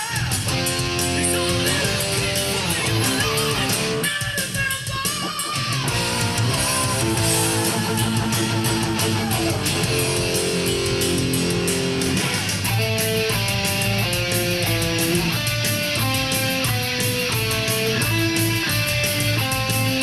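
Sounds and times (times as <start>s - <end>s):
distorted electric guitar: 0.0s - 20.0s
heavy metal drums and bass: 0.0s - 20.0s.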